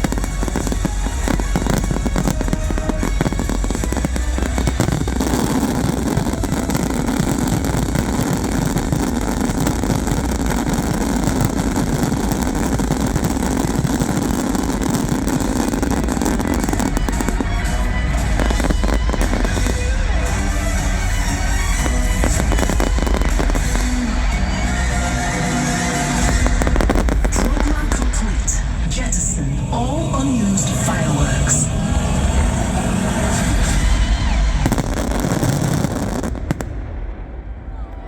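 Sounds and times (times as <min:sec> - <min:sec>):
music playing: 0:00.0 - 0:36.7
fireworks bangs and crackles: 0:00.0 - 0:38.0.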